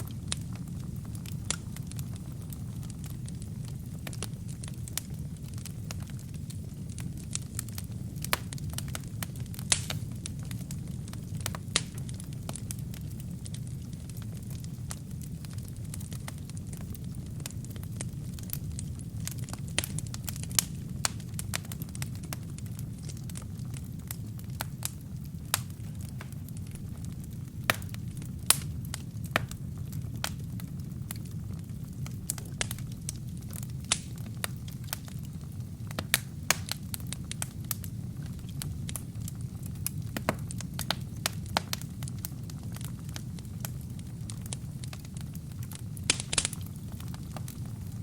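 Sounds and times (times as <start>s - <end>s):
low rumble of flame: 0.0s - 48.0s
wood fire crackling and popping: 0.0s - 48.0s.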